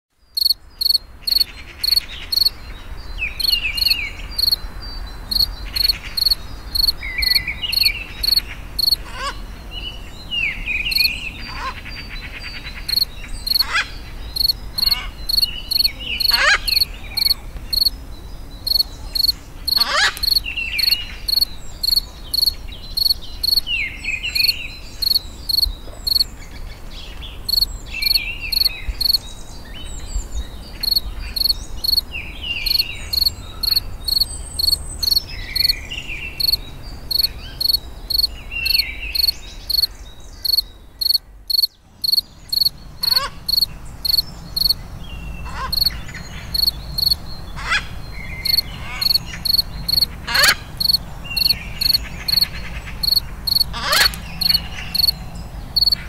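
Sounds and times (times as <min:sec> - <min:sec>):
crickets chirping: 0:00.4 - 0:02.6, 0:03.3 - 0:09.0, 0:10.9 - 0:11.1, 0:12.8 - 0:18.0, 0:18.6 - 0:26.4, 0:27.4 - 0:29.4, 0:30.7 - 0:44.9, 0:45.5 - 0:56.0.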